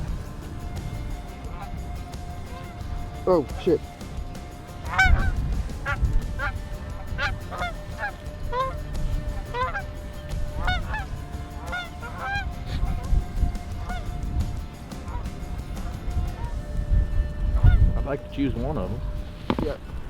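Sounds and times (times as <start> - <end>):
geese honking: 0.0 - 20.0
wind buffeting microphone: 0.0 - 20.0.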